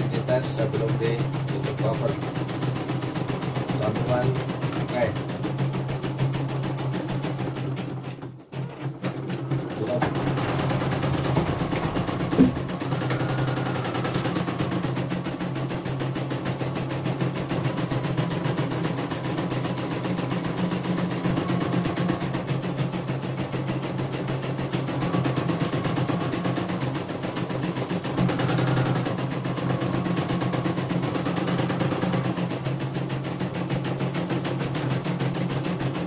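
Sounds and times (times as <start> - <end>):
embroidery machine stitching rattle: 0.0 - 36.0
motor hum: 0.0 - 36.0.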